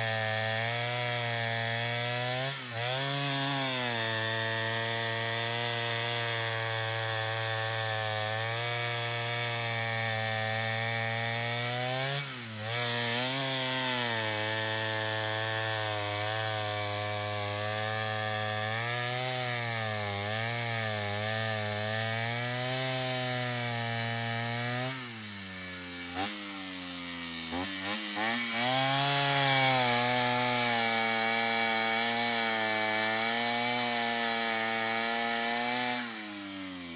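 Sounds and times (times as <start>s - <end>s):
engine saw cutting wood: 0.0s - 36.9s.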